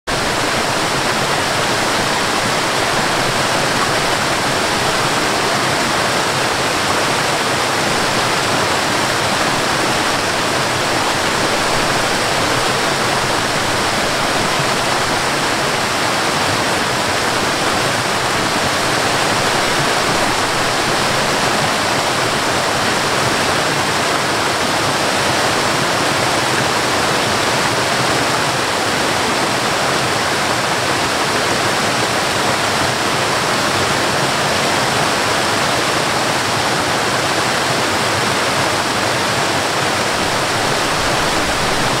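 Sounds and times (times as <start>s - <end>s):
waterfall rushing: 0.1s - 42.0s.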